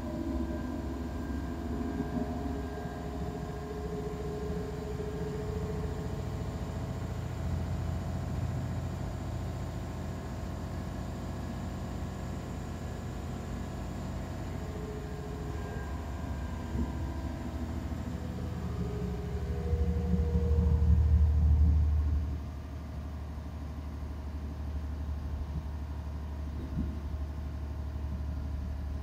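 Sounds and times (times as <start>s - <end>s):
diesel railcar engine running: 0.0s - 29.0s
turbocharger whine: 0.0s - 29.0s.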